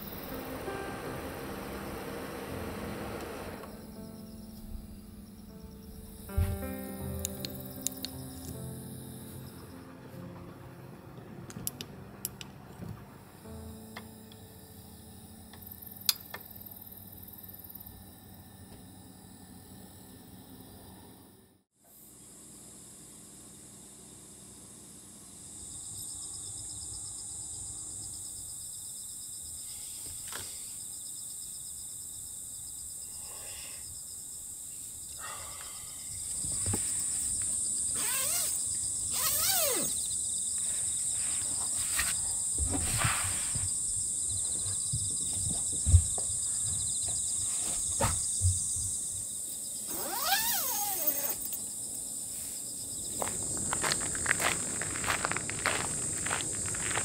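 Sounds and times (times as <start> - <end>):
insects chorus: 0.0 - 10.5, 13.3 - 57.0.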